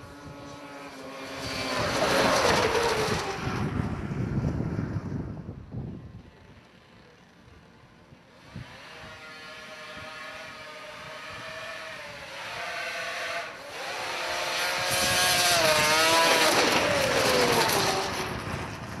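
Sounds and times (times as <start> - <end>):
snowmobile engines at full throttle: 0.0 - 19.0.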